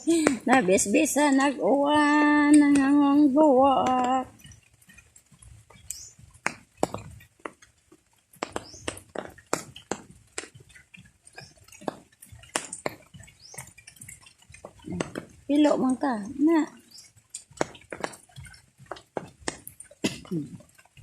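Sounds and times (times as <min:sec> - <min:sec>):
rainwater dripping: 0:00.0 - 0:21.0.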